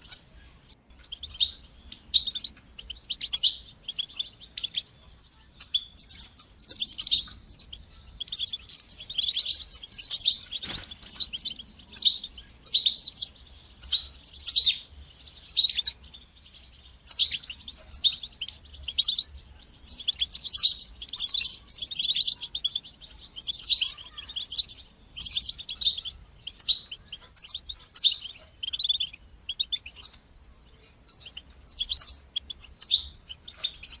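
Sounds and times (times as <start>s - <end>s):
goldfinch twittering song: 0.0s - 34.0s.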